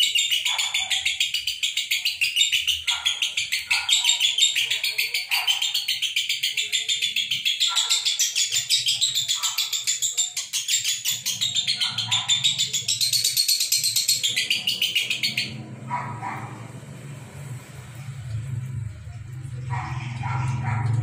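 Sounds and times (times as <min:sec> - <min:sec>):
lovebirds chattering: 0:00.0 - 0:16.8, 0:18.9 - 0:21.0.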